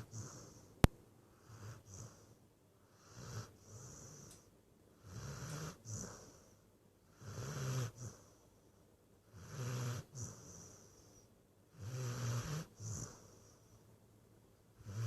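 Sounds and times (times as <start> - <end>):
dog snoring: 0.0 - 0.7, 1.3 - 8.4, 9.2 - 13.8, 14.8 - 15.0.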